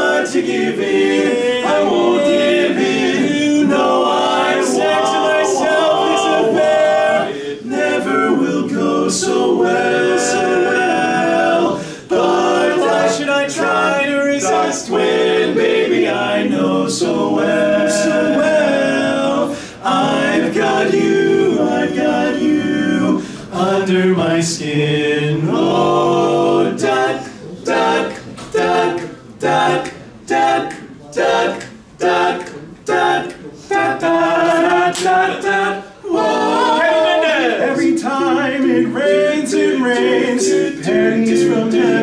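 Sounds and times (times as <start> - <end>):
male quartet singing a cappella: 0.0 - 42.0.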